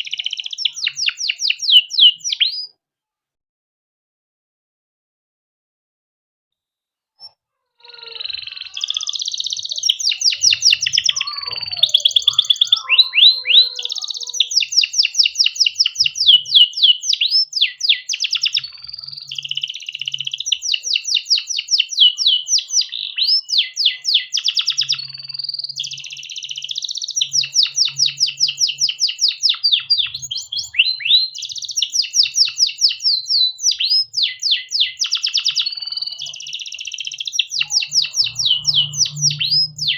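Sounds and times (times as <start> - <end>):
canary singing trills: 0.0 - 2.8, 7.2 - 39.9.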